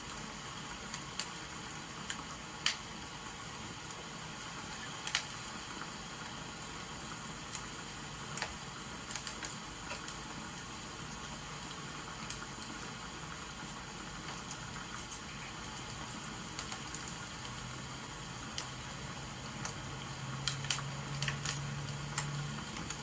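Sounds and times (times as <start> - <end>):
firewood crackling: 0.0 - 23.0
rain hissing: 0.0 - 23.0.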